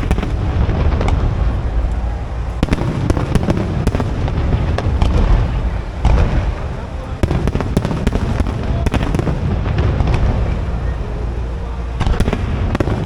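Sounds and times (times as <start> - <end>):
fireworks cracks and pops: 0.0 - 11.0, 12.0 - 13.0
fireworks shell bursts rumbling: 0.0 - 13.0.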